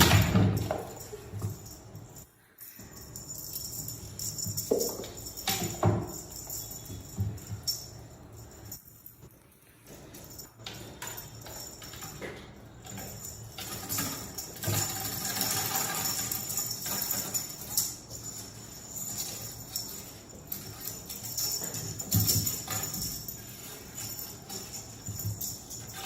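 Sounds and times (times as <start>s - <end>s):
small bells jingling: 0.0s - 26.0s.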